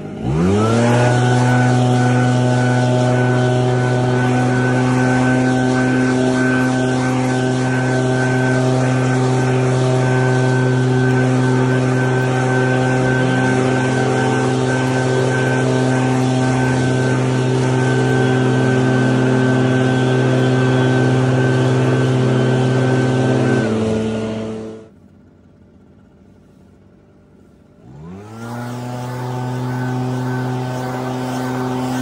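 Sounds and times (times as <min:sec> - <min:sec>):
leaf blowers droning: 0:00.0 - 0:32.0.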